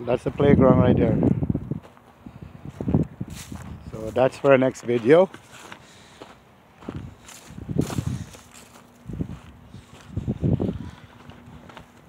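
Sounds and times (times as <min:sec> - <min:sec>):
footsteps outdoors: 0:00.0 - 0:12.0.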